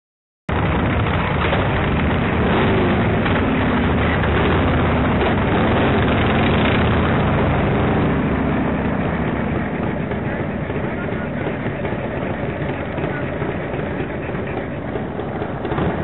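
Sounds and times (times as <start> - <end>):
motorcycle engines running: 0.5 - 16.0
wind and road noise: 0.5 - 16.0.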